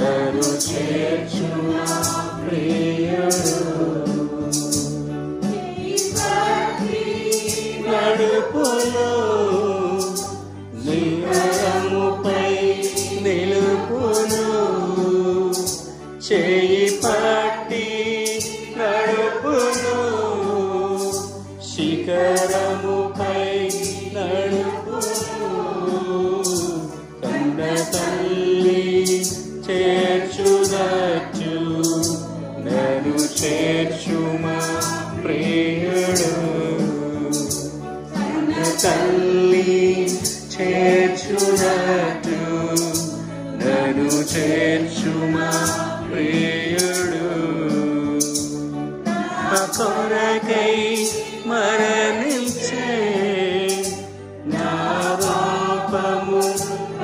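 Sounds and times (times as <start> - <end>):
electronic keyboard: 0.0 - 57.0
group singing worship song: 0.0 - 57.0
ticking beat: 0.0 - 57.0.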